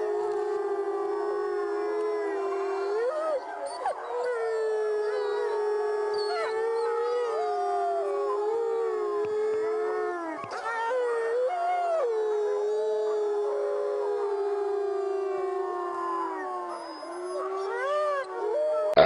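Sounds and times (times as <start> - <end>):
dog howling: 0.0 - 19.0.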